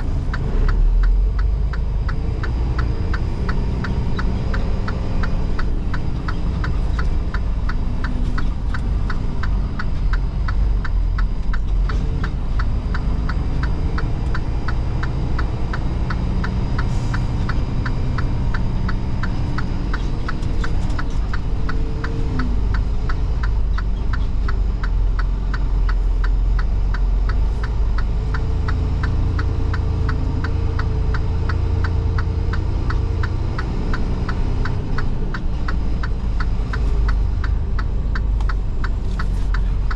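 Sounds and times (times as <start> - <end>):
truck engine droning: 0.0 - 39.9
turn signal ticking: 0.0 - 39.9.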